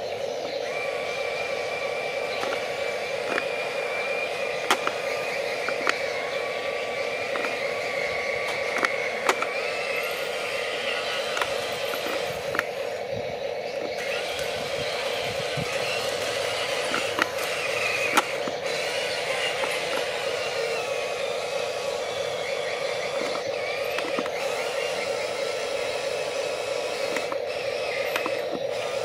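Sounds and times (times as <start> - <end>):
small electric motors whining: 0.0 - 29.0
sharp clicks: 1.7 - 13.0, 13.7 - 25.7, 26.4 - 29.0.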